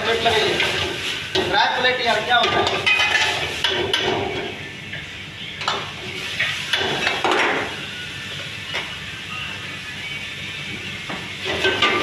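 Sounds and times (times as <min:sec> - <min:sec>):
steady sizzling: 0:00.0 - 0:12.0.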